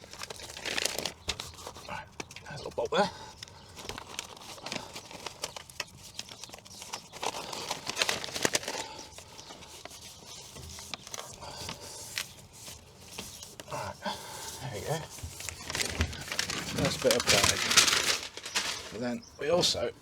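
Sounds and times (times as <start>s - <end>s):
adhesive sheet crinkling and crackling: 0.0s - 19.2s
backing paper peeling: 0.0s - 19.8s.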